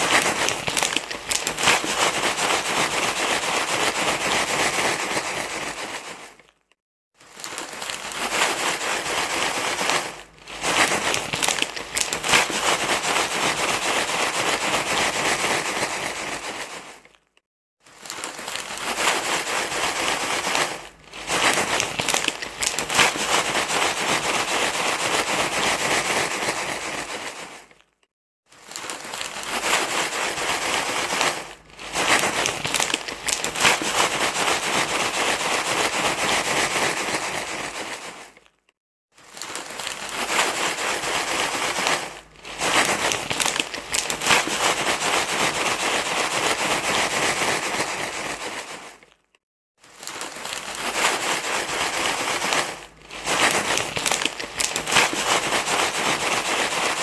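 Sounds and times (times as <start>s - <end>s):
crinkling wrapper rustle: 0.0s - 57.0s.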